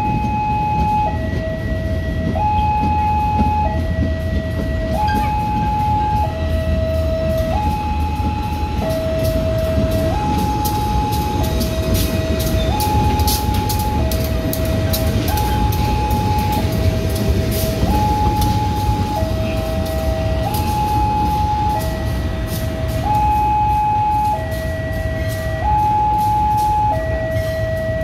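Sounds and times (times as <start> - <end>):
diesel locomotives rumbling: 0.0 - 28.0
two-tone electronic warning alarm: 0.0 - 28.0.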